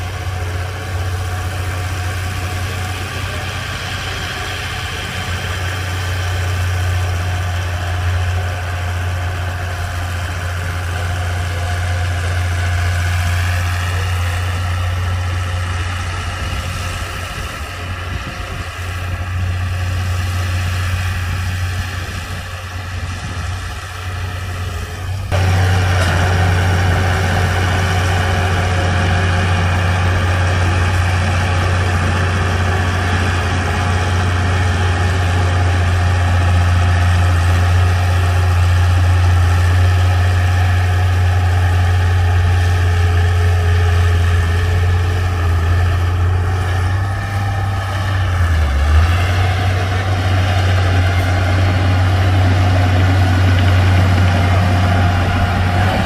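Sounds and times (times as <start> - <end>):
bulldozer diesel engine droning: 0.0 - 56.0.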